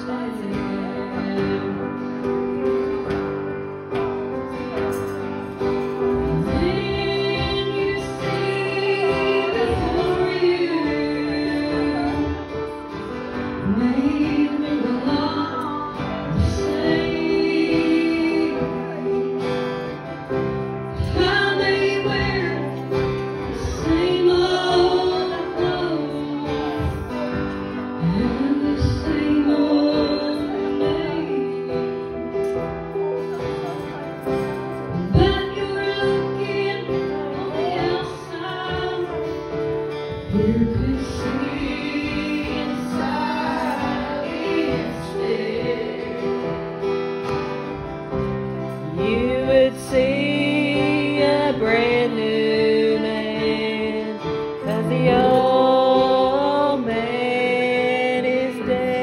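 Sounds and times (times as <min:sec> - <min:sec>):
woman singing into a microphone: 0:00.0 - 0:03.1, 0:05.8 - 0:19.8, 0:20.4 - 0:32.6, 0:33.2 - 0:46.6, 0:48.7 - 0:59.0.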